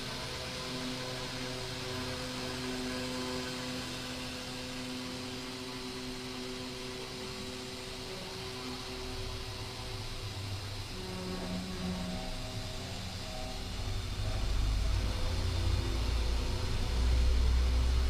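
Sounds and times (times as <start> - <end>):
milling machine spindle motor humming: 0.0 - 18.0.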